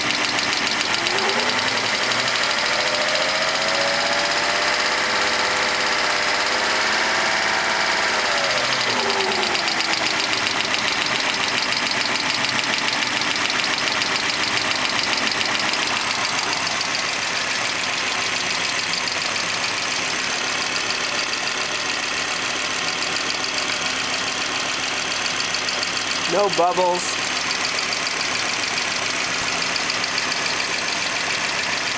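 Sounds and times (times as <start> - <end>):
car engine idling: 0.0 - 31.9
fast even engine ticking: 0.0 - 31.9.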